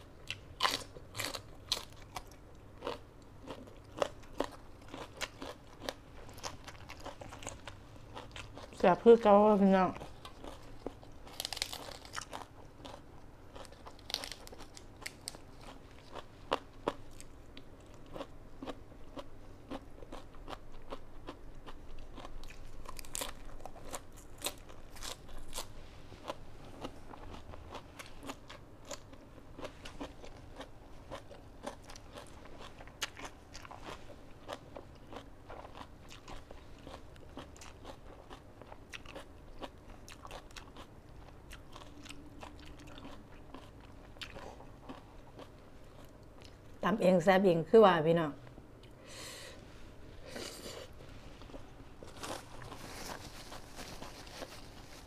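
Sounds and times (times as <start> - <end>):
person chewing crunchy vegetables: 0.0 - 46.8, 48.8 - 55.0.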